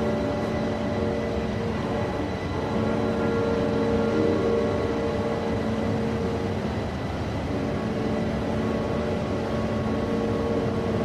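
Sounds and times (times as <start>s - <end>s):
boat engine drone: 0.0s - 11.0s
held low tones: 0.0s - 11.0s.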